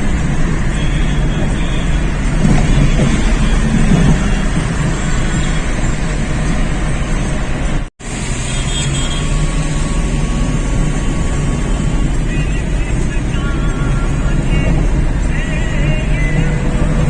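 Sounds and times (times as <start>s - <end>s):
vehicle running noise: 0.0s - 17.0s.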